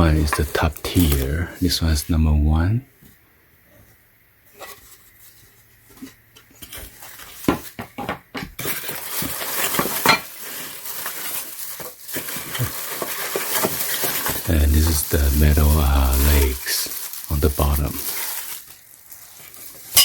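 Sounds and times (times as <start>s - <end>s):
crinkling rustle: 0.0s - 2.0s, 3.1s - 7.8s, 8.6s - 20.0s.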